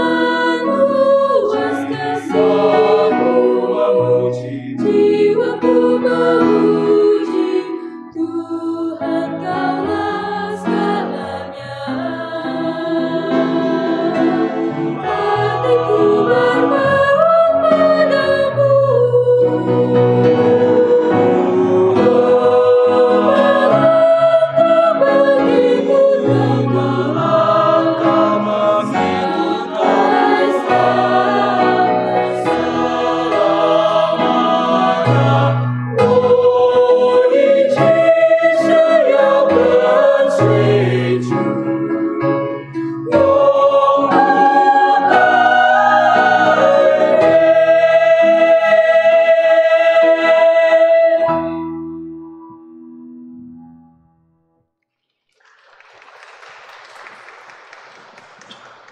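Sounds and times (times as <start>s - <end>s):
mixed choir singing a hymn: 0.0s - 51.6s.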